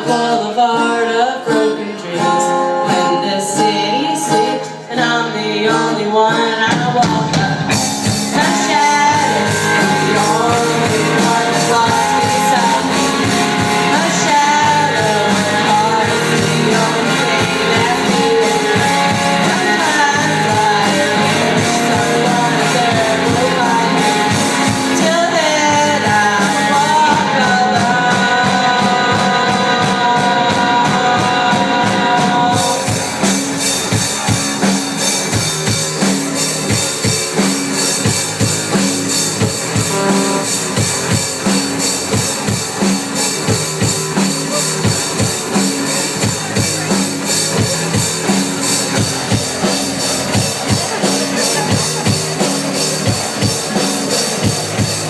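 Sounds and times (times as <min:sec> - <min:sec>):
drum kit: 0:00.0 - 0:55.0
electric guitars: 0:00.0 - 0:55.0
person singing: 0:00.0 - 0:55.0.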